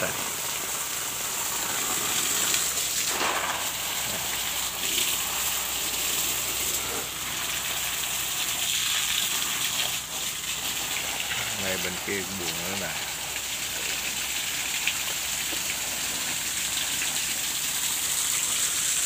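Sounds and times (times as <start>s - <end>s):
hose water splashing on soil: 0.0s - 19.0s.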